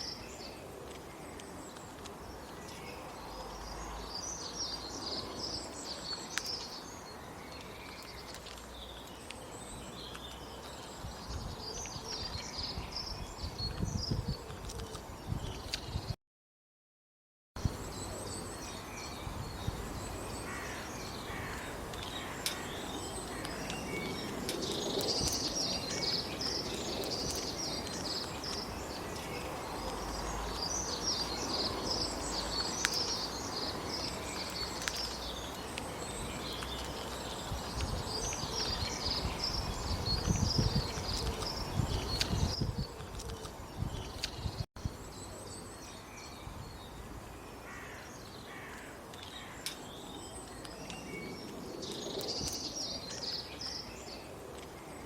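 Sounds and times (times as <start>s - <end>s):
outdoor background noise: 0.0s - 16.2s, 17.6s - 55.0s
small birds chirping: 0.0s - 16.2s, 17.6s - 55.0s.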